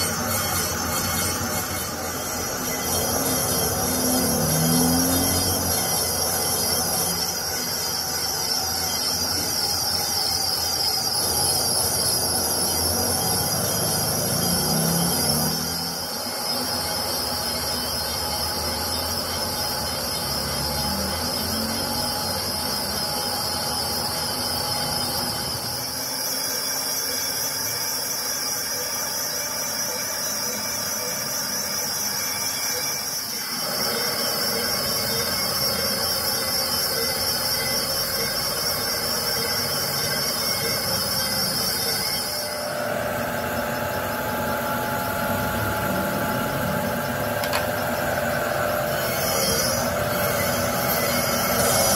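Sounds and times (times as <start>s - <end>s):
grinding wheel whining: 0.0s - 51.9s
machine noise: 0.0s - 51.9s.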